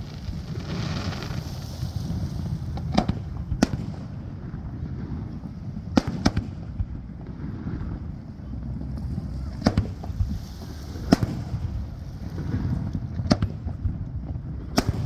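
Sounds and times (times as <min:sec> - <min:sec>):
distant fireworks bangs: 0:00.0 - 0:15.0
low rumble: 0:00.0 - 0:15.0.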